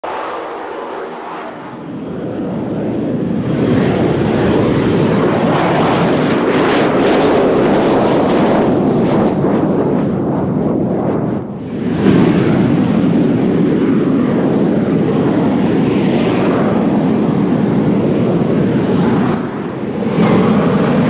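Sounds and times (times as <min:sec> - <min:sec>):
jet flying past: 0:00.0 - 0:21.0.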